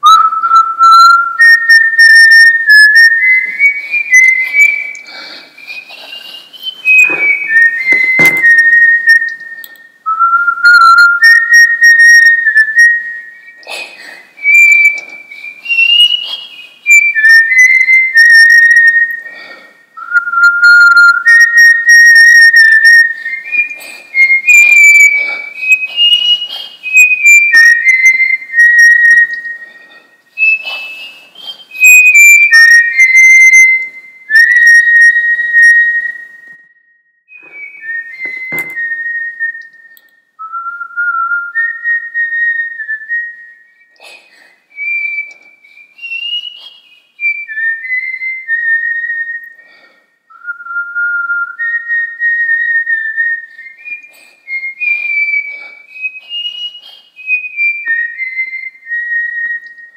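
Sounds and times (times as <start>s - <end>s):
person whistling a tune: 0.0s - 59.9s.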